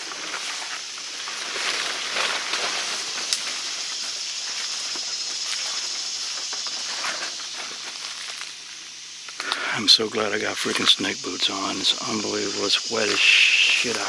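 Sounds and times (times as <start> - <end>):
footsteps through wet undergrowth: 0.0 - 9.6, 10.2 - 14.0
steady high-pitched hiss: 0.0 - 14.0.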